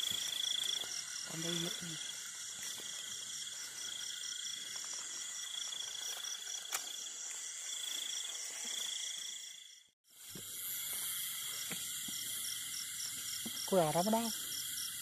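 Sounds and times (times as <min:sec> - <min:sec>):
crickets trilling: 0:00.0 - 0:15.0
higher pulsing cricket chirping: 0:00.0 - 0:15.0.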